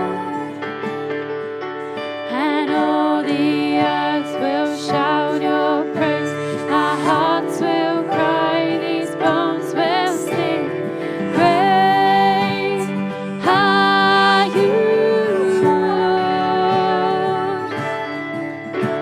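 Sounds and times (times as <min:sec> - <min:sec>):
sustained keyboard chords: 0:00.0 - 0:19.0.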